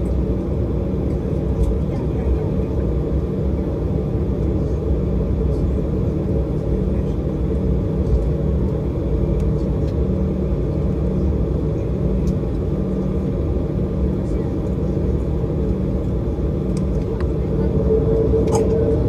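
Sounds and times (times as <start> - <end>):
aircraft cabin rumble: 0.0 - 19.0
low steady hum: 0.0 - 19.0.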